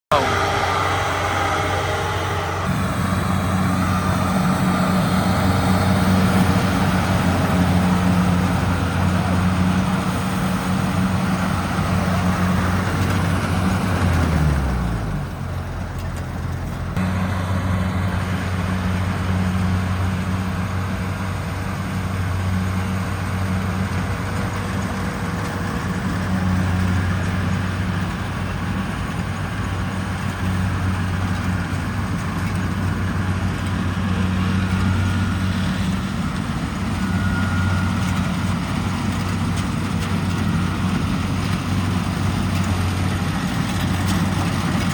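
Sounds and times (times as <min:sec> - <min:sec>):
combine harvester diesel engine: 0:00.0 - 0:44.9.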